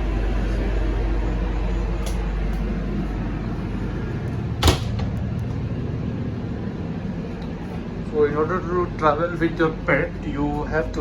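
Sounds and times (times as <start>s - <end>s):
train coach rumble: 0.0s - 11.0s.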